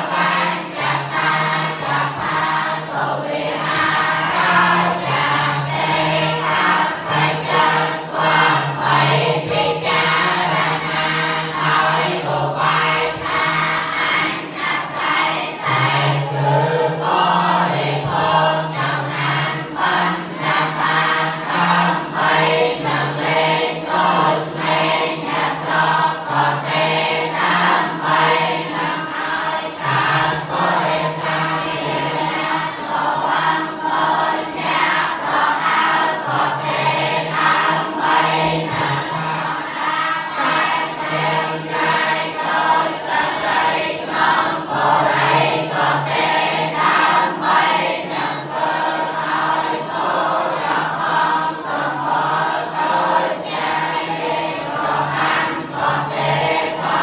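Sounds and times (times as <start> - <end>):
group of voices chanting: 0.0 - 57.0.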